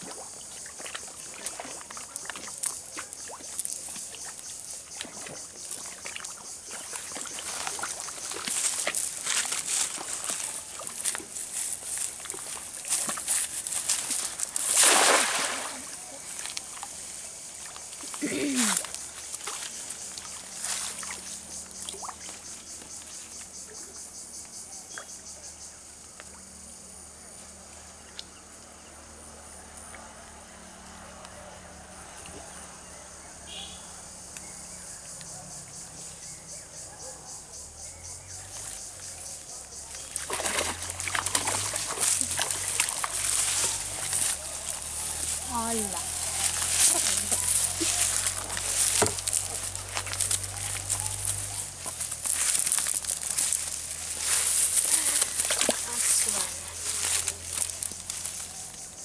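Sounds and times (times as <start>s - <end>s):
insect chirps: 0.0s - 59.0s
insect trill: 0.0s - 59.0s.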